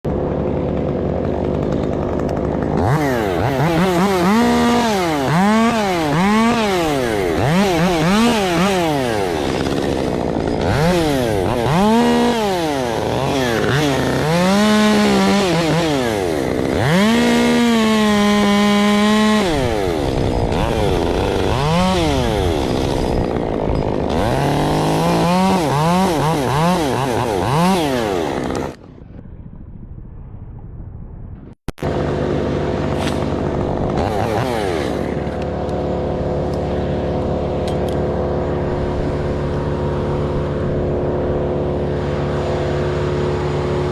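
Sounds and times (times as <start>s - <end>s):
chainsaw engine revving: 0.1s - 28.8s, 31.8s - 43.9s.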